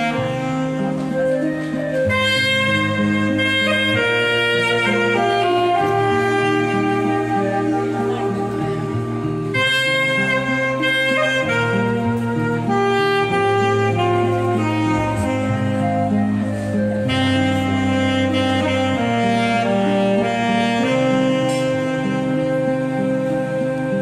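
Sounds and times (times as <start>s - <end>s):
saxophone ballad melody: 0.0s - 24.0s.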